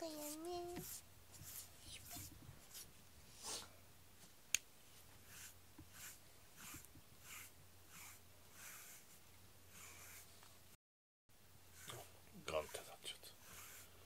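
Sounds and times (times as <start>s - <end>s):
brush strokes through cat fur: 0.0s - 10.6s, 11.7s - 14.0s.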